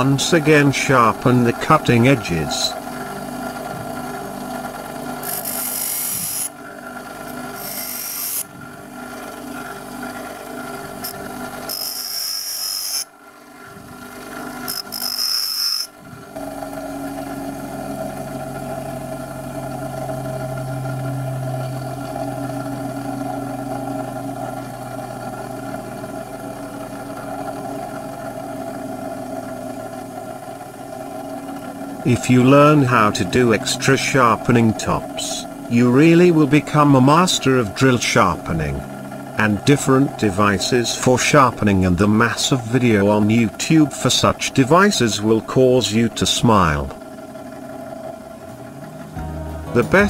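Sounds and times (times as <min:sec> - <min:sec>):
drill bit grinding on wheel: 0:00.0 - 0:41.6
grinder motor hum: 0:00.0 - 0:50.0.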